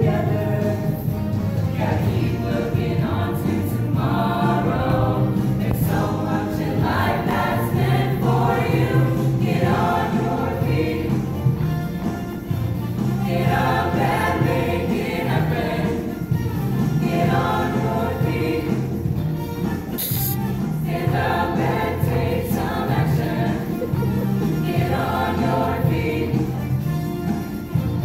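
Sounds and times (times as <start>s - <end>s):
choir singing: 0.0s - 11.8s, 12.9s - 27.4s.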